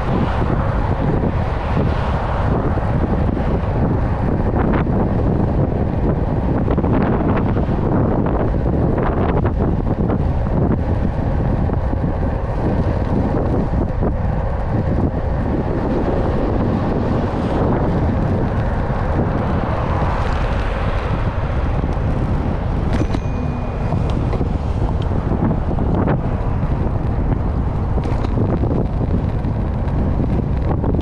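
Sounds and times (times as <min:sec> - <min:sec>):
moving vehicle rumble: 0:00.0 - 0:31.0
wind buffeting microphone: 0:00.0 - 0:31.0.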